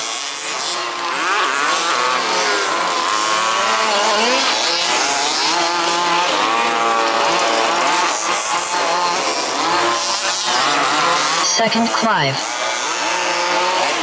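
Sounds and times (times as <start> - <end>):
small two-stroke engines buzzing: 0.0 - 14.0.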